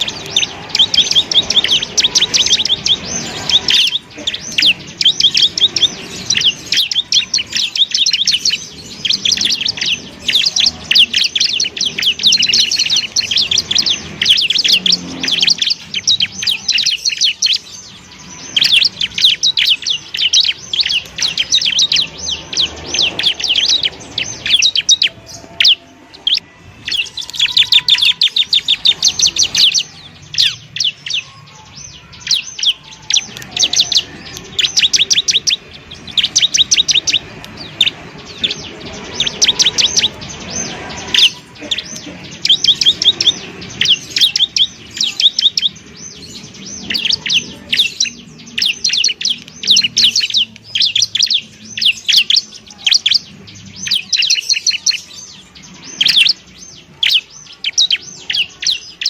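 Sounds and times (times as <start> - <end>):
bird singing high ticking notes: 0.0 - 59.0.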